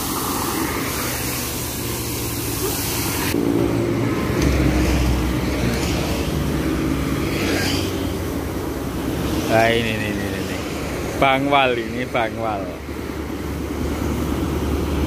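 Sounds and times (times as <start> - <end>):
motorcycles passing: 0.0 - 15.0
road traffic passing: 0.0 - 15.0.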